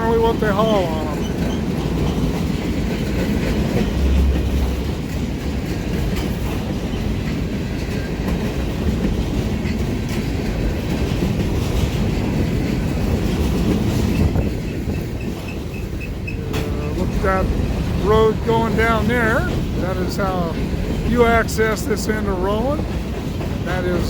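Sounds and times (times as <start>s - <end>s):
freight train rolling past: 0.0s - 24.0s
wheels clicking over rail joints: 0.0s - 24.0s.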